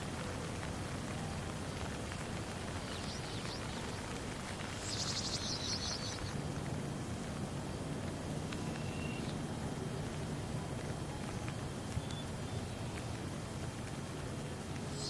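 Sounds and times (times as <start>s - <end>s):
rain falling on a pond: 0.0s - 15.0s.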